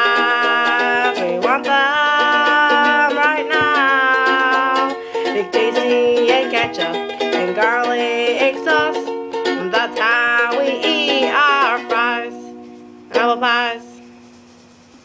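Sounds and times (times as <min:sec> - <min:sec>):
woman singing: 0:00.0 - 0:14.0
ukulele strumming: 0:00.0 - 0:14.2.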